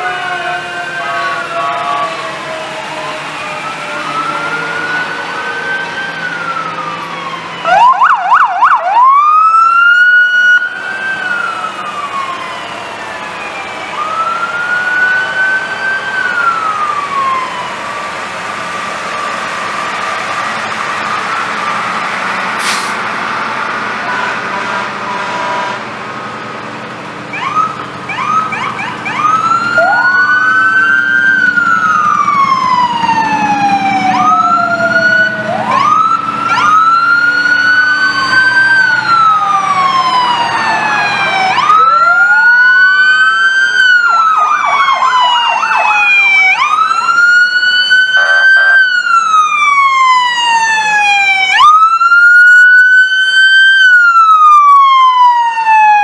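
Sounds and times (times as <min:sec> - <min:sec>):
emergency sirens wailing: 0:00.0 - 0:56.0
vehicle engine noise: 0:00.0 - 0:56.0.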